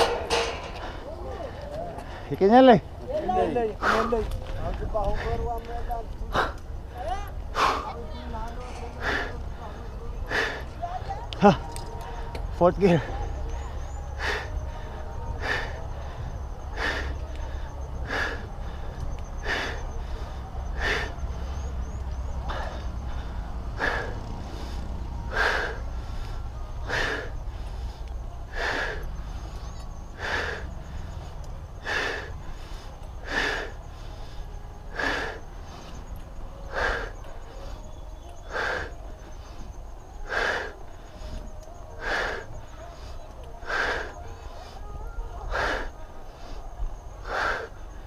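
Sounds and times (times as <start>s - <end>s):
heavy gasping breathing: 0.0s - 48.0s.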